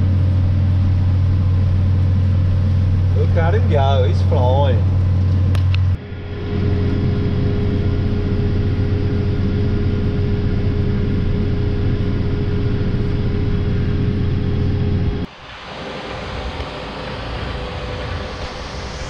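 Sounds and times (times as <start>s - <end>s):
thin steady whine: 0.0s - 19.0s
tractor engine droning: 0.0s - 19.0s.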